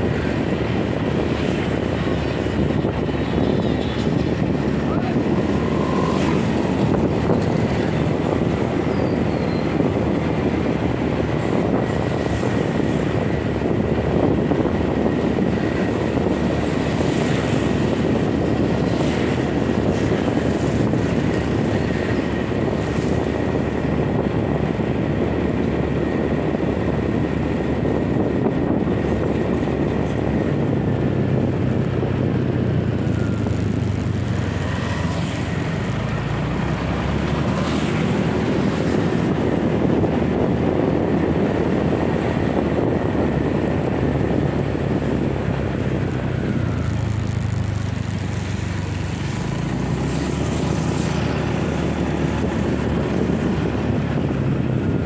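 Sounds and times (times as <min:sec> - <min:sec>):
tyre and road noise: 0:00.0 - 0:55.0
wind on microphone: 0:00.0 - 0:55.0.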